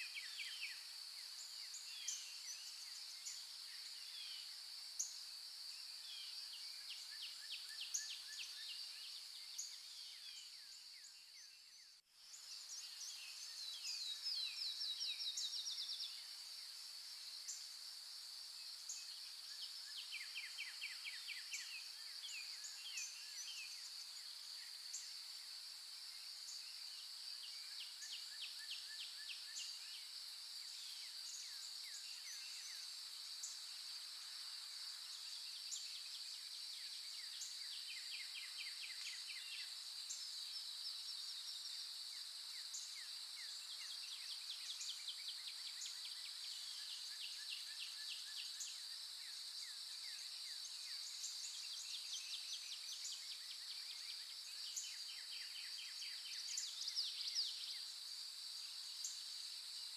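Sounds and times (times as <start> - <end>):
insects droning high-pitched: 0.0 - 59.9.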